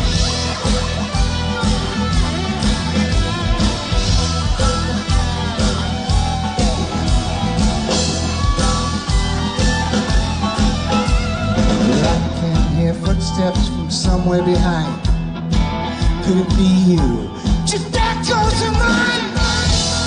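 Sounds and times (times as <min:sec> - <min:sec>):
bass guitar: 0:00.0 - 0:20.0
drum beat: 0:00.0 - 0:20.0
electric guitar lead: 0:00.0 - 0:20.0.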